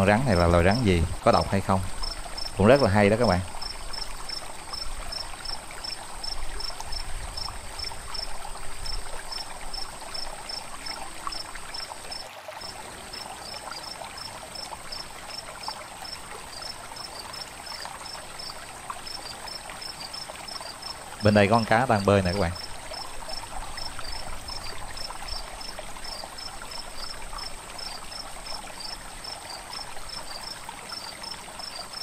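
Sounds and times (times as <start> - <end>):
insect chirping: 0.0 - 32.0
stream running water: 0.0 - 32.0.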